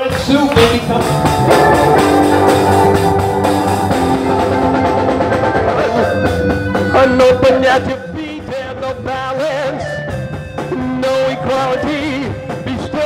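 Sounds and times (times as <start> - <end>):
drum kit: 0.0 - 13.0
rock band playing: 0.0 - 13.0.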